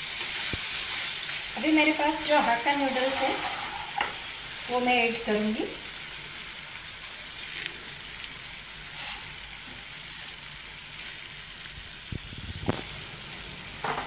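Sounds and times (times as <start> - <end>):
fried noodles crackling: 0.0 - 14.0
vegetables sizzling in a pan: 0.0 - 14.0.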